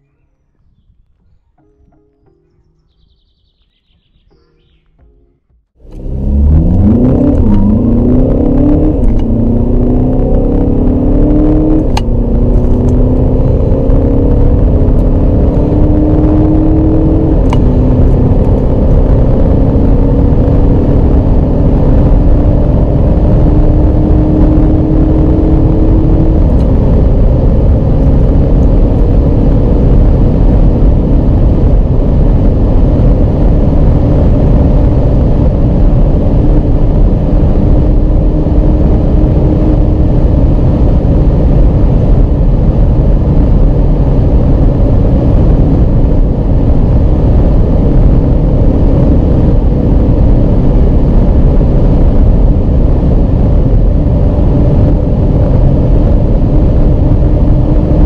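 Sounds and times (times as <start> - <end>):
road and wind rumble: 0.0 - 58.0
diesel car engine accelerating: 5.7 - 58.0.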